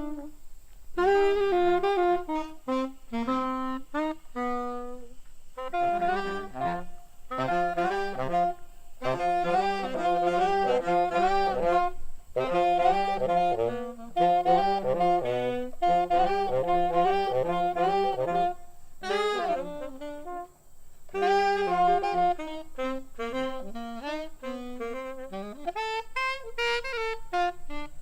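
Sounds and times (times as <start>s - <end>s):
jazz saxophone melody: 0.0s - 28.0s.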